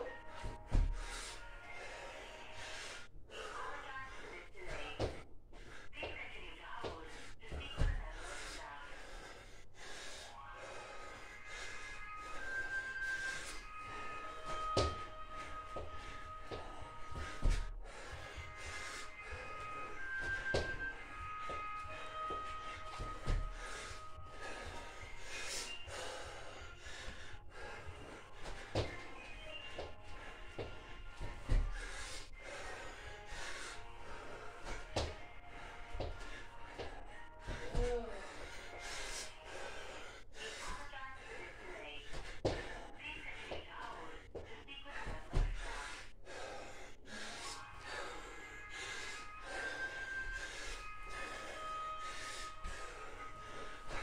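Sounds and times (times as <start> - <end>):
man breathing hard: 0.0 - 6.2, 6.8 - 54.0.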